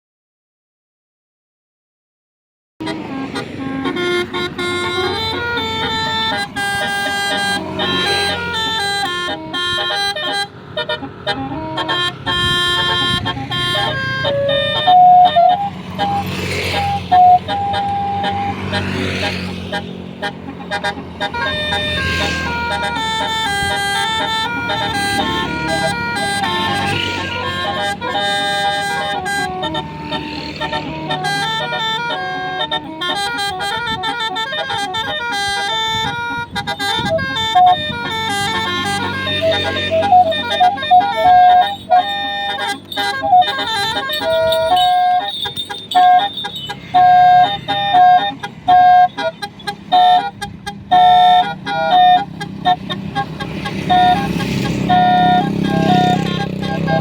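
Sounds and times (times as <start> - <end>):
bus multi-tone horn tune: 2.8 - 57.0
engine hum: 2.8 - 57.0.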